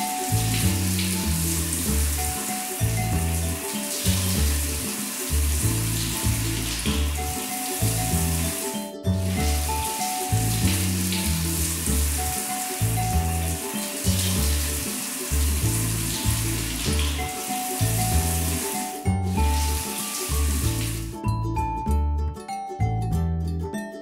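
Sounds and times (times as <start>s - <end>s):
bouncy bass line: 0.0s - 23.7s.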